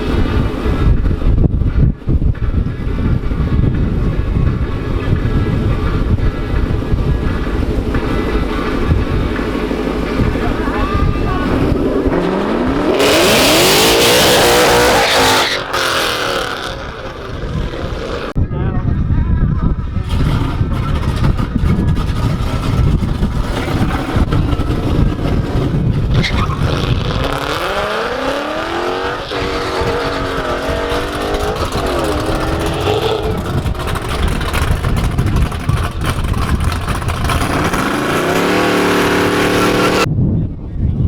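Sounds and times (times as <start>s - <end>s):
car engine accelerating hard: 0.0s - 1.6s, 2.4s - 18.4s, 20.0s - 40.1s.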